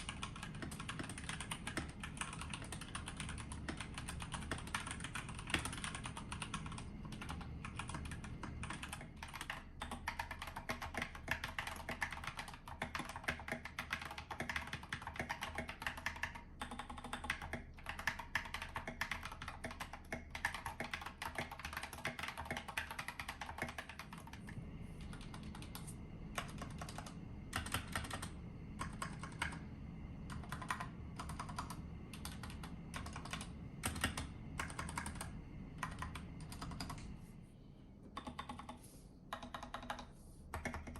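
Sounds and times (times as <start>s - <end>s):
typing on mechanical keyboard: 0.0s - 25.8s, 26.4s - 29.6s, 30.3s - 37.1s, 38.2s - 40.9s.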